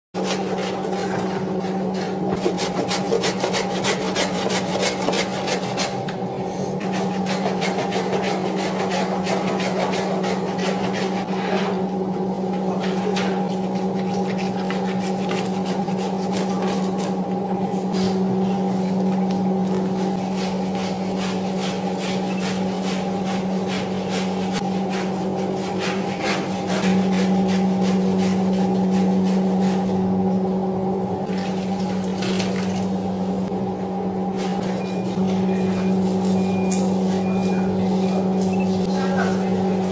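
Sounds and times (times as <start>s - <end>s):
low machine hum: 0.2s - 39.9s.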